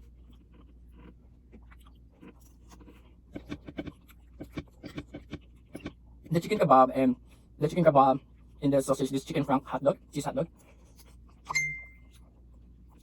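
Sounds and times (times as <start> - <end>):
person chewing food: 0.0 - 6.6, 7.2 - 8.7, 9.5 - 13.0.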